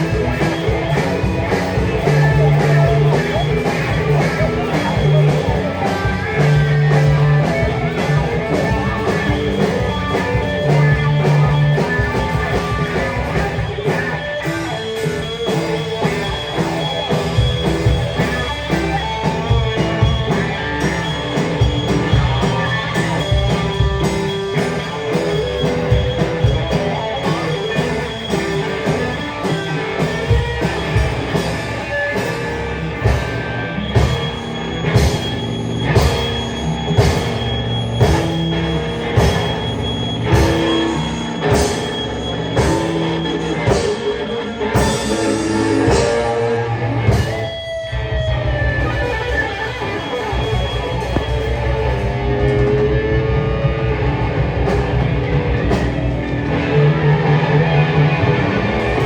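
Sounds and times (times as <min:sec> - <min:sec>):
drum kit beat: 0:00.0 - 0:59.0
guitar: 0:00.0 - 0:59.0.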